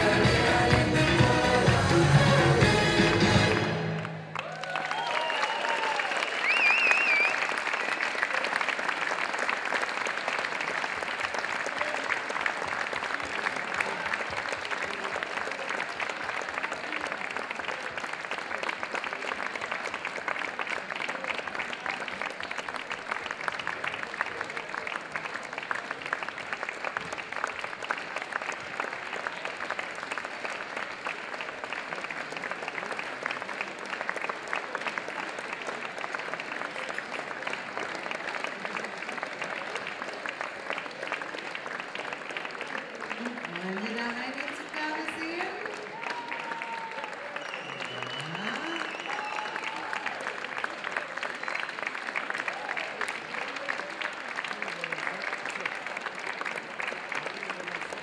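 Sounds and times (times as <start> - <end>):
large audience applauding: 0.0 - 58.0.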